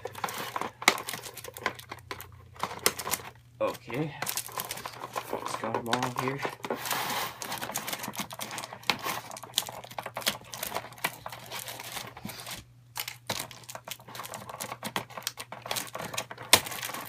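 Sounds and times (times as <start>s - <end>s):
cardboard and paper packaging rustling: 0.0s - 17.0s.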